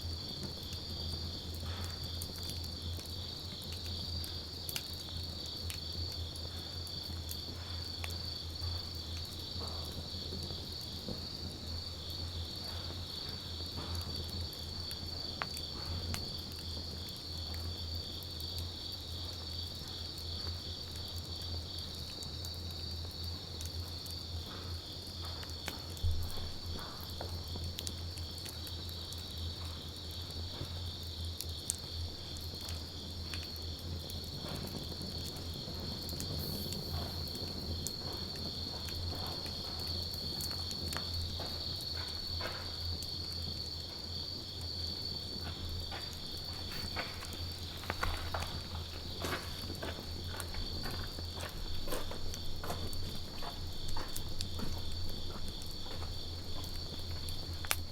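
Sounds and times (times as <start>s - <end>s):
campfire crackling and popping: 0.0s - 57.9s
insects trilling: 0.0s - 57.9s.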